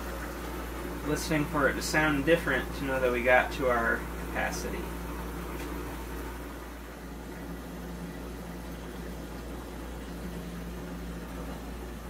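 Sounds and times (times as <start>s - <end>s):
water pump humming: 0.0s - 12.0s.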